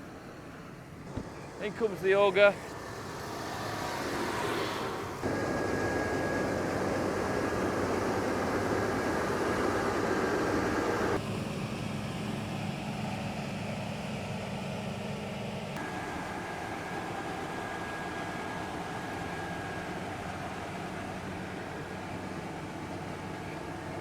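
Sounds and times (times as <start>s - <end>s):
high machine whine: 0.0s - 13.7s, 15.8s - 24.0s
combine harvester drone: 0.0s - 24.0s.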